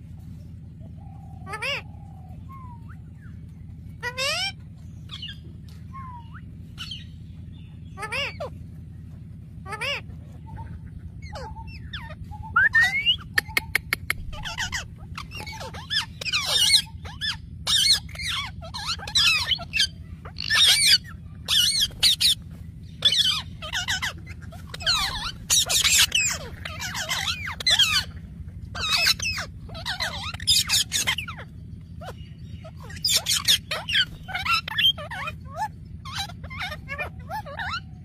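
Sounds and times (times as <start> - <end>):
steady low hum: 0.0 - 38.0
parrots chirping: 0.9 - 3.4, 4.0 - 8.6, 9.6 - 38.0.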